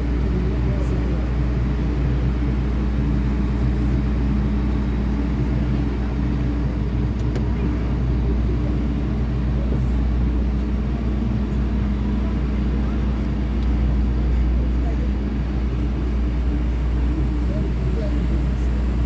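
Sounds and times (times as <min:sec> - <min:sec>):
constant hum: 0:00.0 - 0:19.0.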